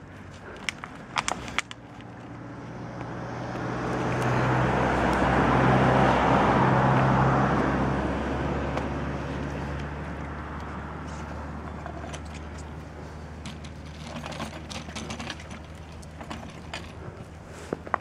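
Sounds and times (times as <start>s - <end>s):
vehicle passing on road: 0.0s - 18.0s.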